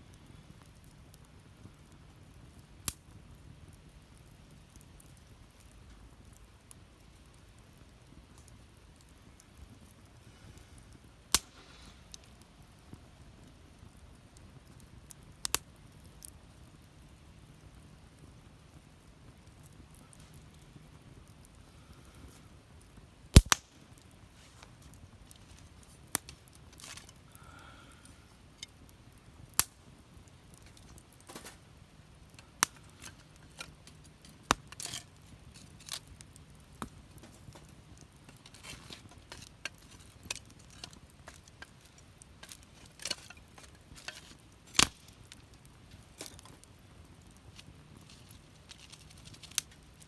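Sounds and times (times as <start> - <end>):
low fire hiss: 0.0 - 50.0
wood fire crackling and popping: 0.0 - 50.0.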